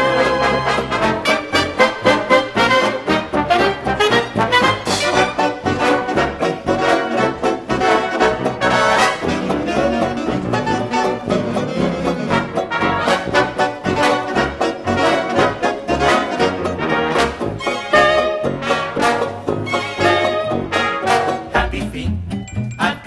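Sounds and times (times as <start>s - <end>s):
brass jazz dance music: 0.0s - 23.0s.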